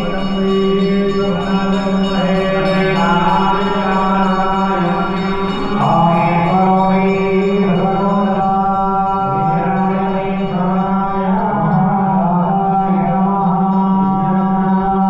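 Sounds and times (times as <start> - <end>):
men chanting together: 0.0 - 14.1.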